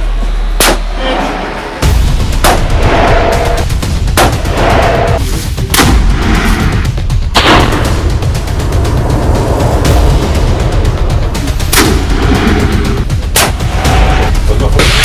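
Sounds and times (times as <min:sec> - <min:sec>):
music with heavy bass: 0:00.0 - 0:15.0.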